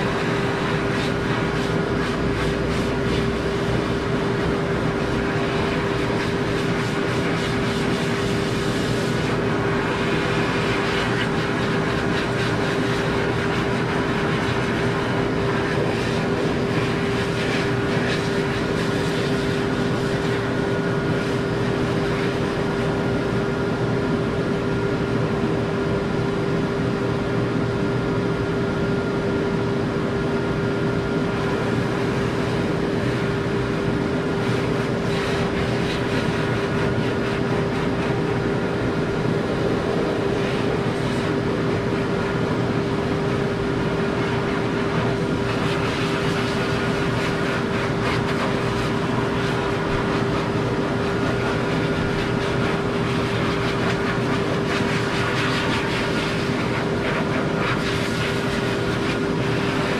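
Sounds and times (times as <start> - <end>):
blow dryer air rushing: 0.0 - 59.9.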